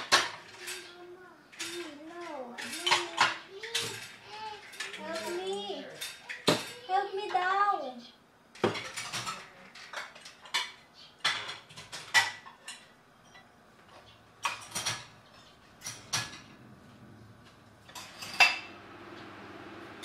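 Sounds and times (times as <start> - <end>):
dishes clinking in a wire rack: 0.0 - 7.4, 8.6 - 16.6, 17.9 - 18.8.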